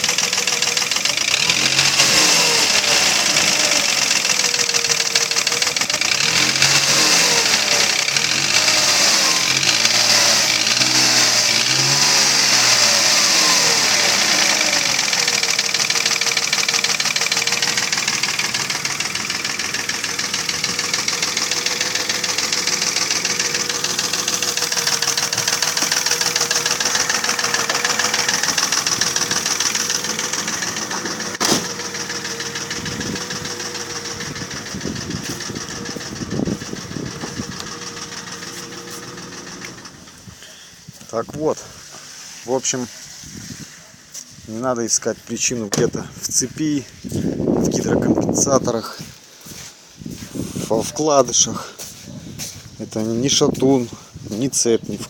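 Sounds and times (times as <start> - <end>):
car engine knocking and revving: 0.0 - 41.0, 45.3 - 48.8.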